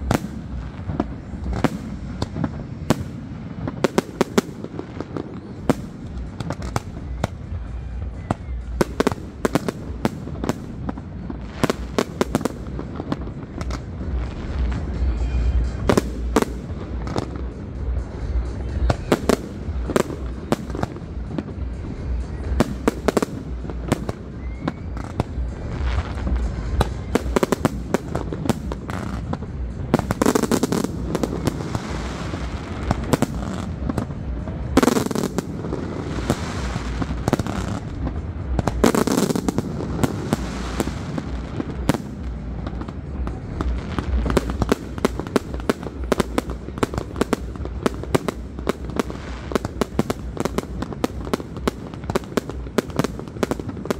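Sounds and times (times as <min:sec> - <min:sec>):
fireworks bursts: 0:00.0 - 0:53.9
fireworks cracking and popping: 0:00.0 - 0:53.9
low rumble: 0:00.0 - 0:53.9.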